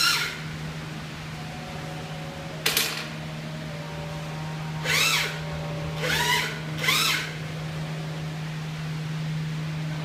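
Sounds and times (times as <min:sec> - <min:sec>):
printer motor hum: 0:00.0 - 0:10.0
short rising and falling whines: 0:00.0 - 0:10.0.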